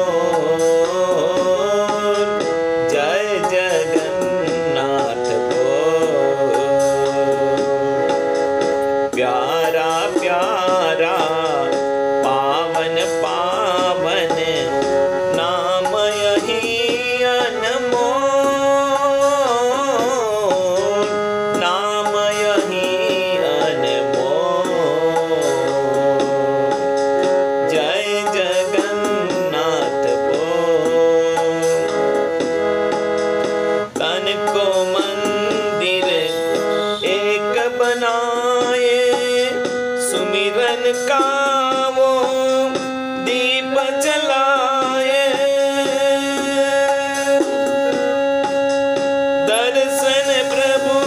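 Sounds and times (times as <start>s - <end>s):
held keyboard chords: 0.0s - 51.0s
tabla drumming: 0.0s - 51.0s
wavering melody line: 0.0s - 51.0s.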